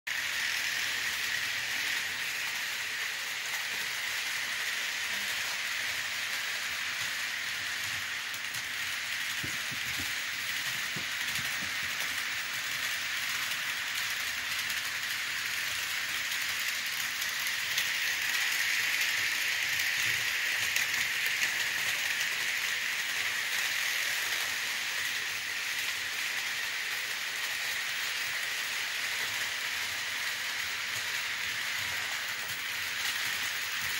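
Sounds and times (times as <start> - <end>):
model train rattling on track: 0.1 - 33.9.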